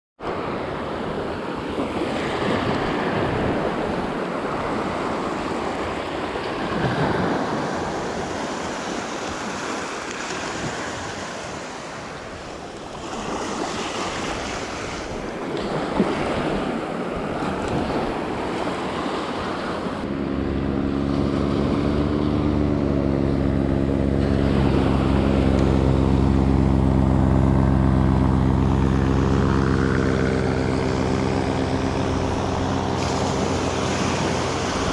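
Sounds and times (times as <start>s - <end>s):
rushing wind and surf: 0.2s - 34.9s
engine drone: 0.3s - 16.6s, 18.6s - 34.9s.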